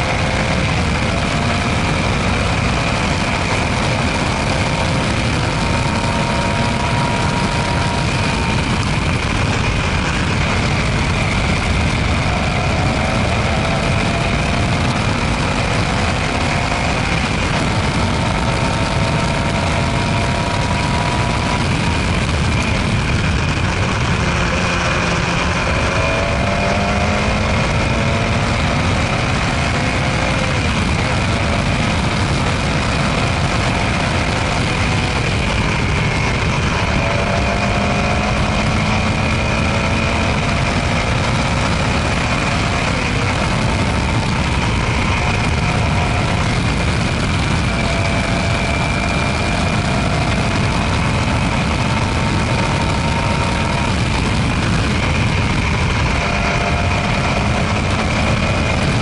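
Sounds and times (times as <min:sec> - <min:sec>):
racing car engine: 0:00.0 - 0:59.0
rushing wind: 0:00.0 - 0:59.0.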